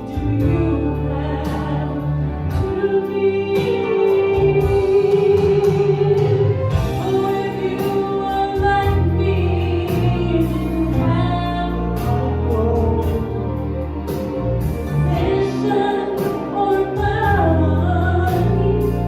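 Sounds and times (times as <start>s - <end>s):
bass line: 0.0s - 19.0s
gospel choir singing: 0.0s - 19.0s.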